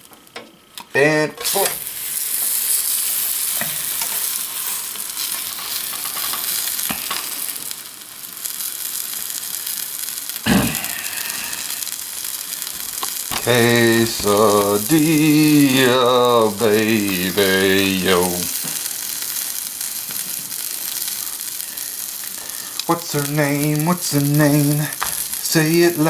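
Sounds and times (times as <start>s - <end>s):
quesadilla sizzling in a pan: 0.0s - 26.0s.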